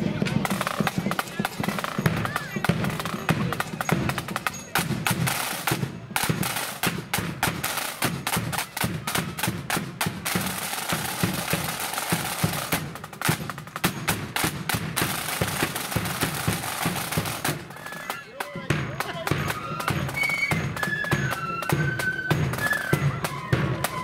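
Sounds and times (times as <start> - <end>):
snare drums playing rolls: 0.0 - 24.0.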